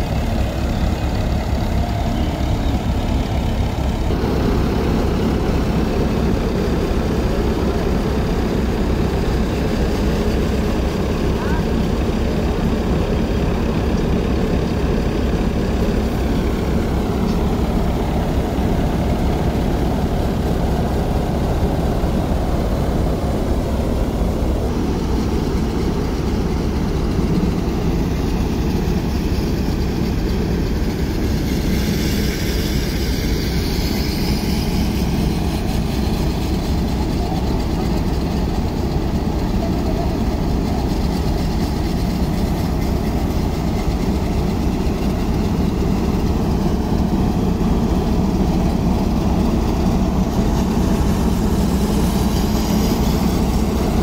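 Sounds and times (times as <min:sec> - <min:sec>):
tractor engine working: 0:00.0 - 0:54.0
thresher mechanical drone: 0:04.0 - 0:54.0.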